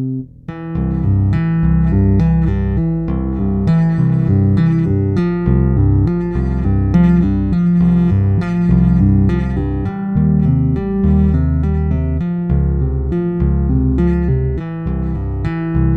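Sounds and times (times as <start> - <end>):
electric bass tapping: 0.0 - 15.9.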